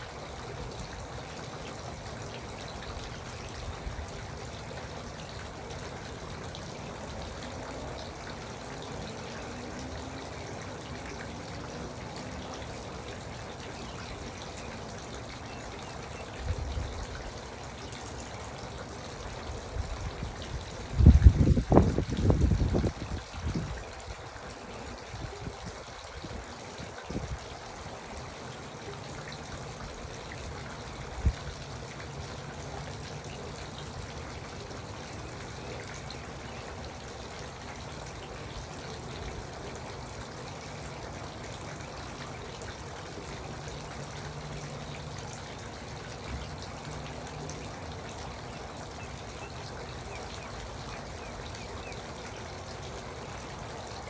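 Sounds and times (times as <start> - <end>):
fountain trickling: 0.0 - 54.0.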